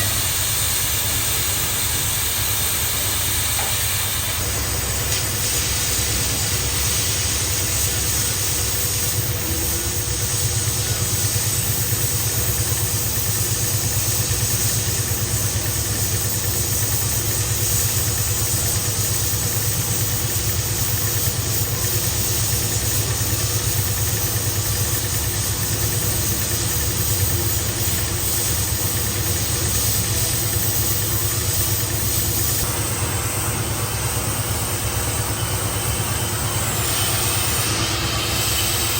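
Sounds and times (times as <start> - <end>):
boring machine humming: 0.0 - 38.9.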